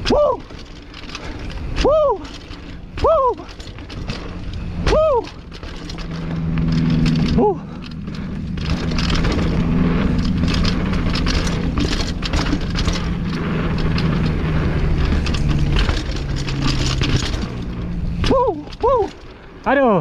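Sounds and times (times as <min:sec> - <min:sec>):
bike knocking and rattling: 0:00.0 - 0:20.0
tyres rolling on dirt: 0:00.0 - 0:20.0.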